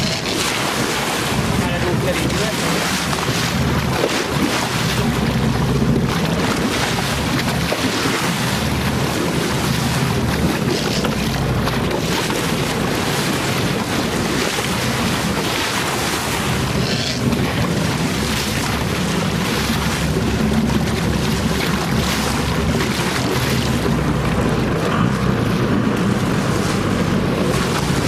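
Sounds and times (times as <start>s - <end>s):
boat engine drone: 0.0s - 28.0s
sea water rushing and churning: 0.0s - 28.0s.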